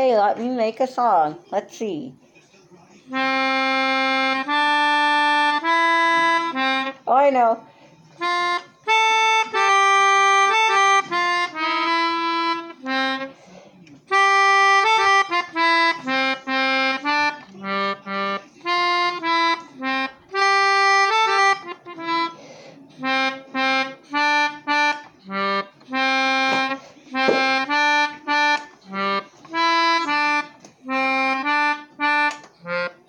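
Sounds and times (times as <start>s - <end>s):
melodica playing a melody: 3.1s - 7.1s, 8.1s - 33.0s.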